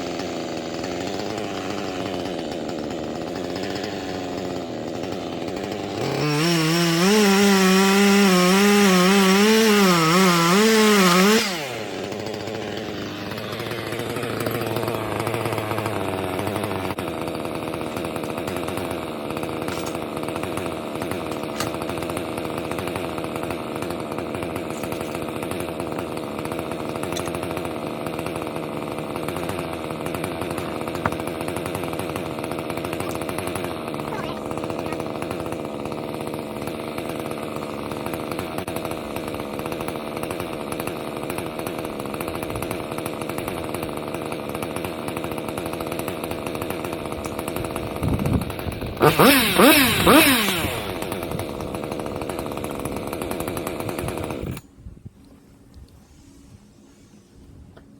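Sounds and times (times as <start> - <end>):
chainsaw cutting wood: 0.0 - 54.8.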